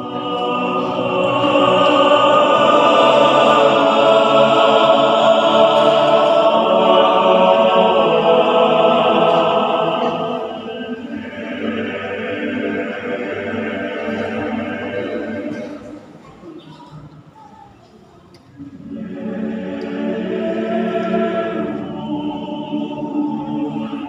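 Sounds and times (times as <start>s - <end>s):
men's choir singing: 0.0s - 16.2s, 18.6s - 24.0s.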